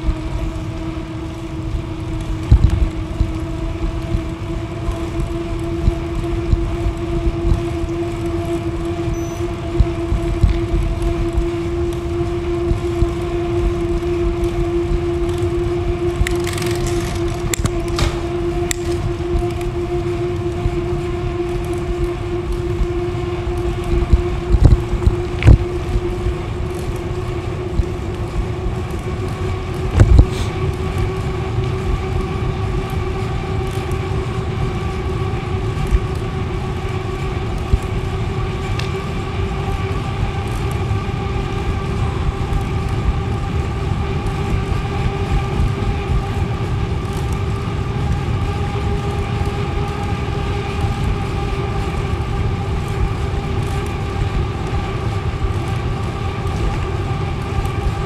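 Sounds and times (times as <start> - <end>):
bicycle tyres rumbling: 0.0 - 58.0
steady whine: 0.0 - 58.0.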